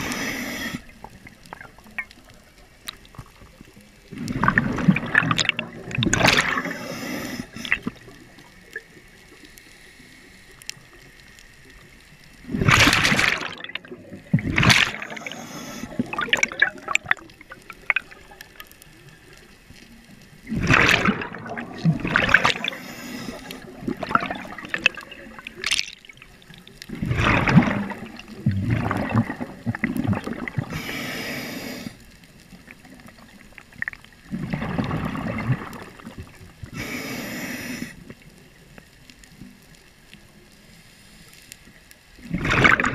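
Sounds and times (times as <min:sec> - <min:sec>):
underwater exhaled bubbles: 0:00.0 - 0:40.7, 0:41.7 - 0:42.9.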